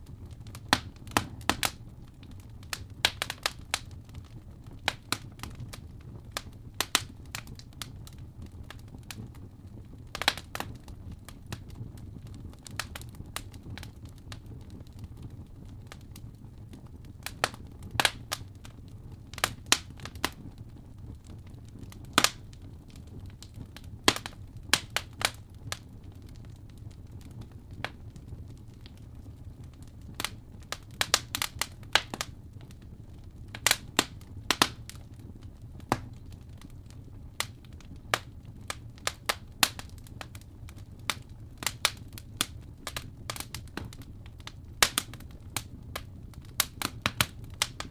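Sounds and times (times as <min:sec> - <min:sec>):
fire crackling and popping: 0:00.0 - 0:47.9
low rumble of fire: 0:00.0 - 0:47.9.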